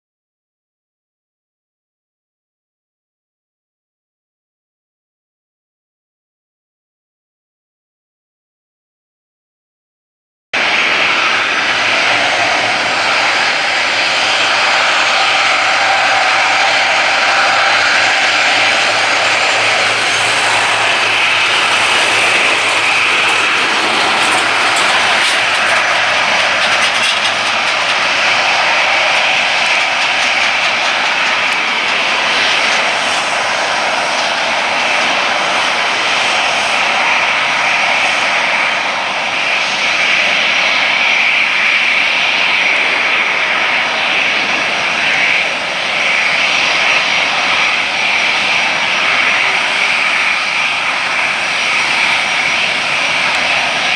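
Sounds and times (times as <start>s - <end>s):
jet engines running: 10.6s - 53.9s.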